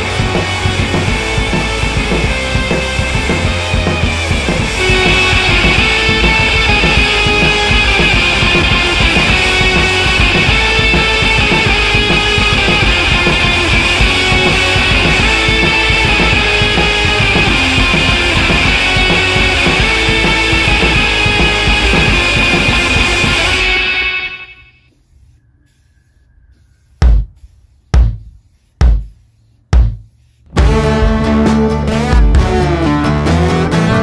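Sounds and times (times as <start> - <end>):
rock music with guitar and drums: 0.0 - 24.4, 30.5 - 34.0.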